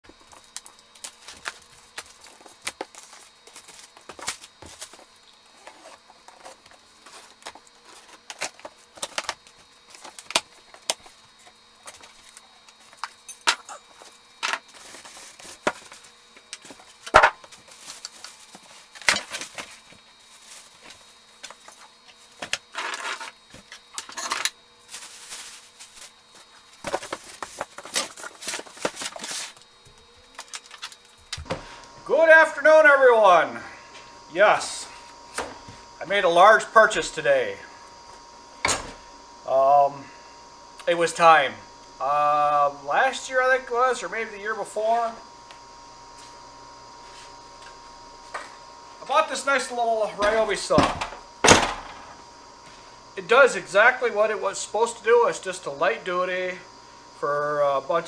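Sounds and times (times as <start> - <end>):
faint steady hum: 0.1 - 58.0.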